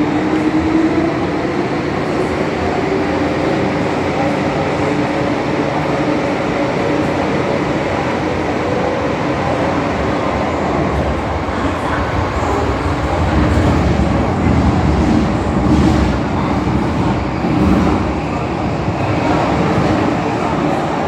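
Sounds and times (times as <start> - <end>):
train wheels rumbling in tunnel: 0.0 - 21.0.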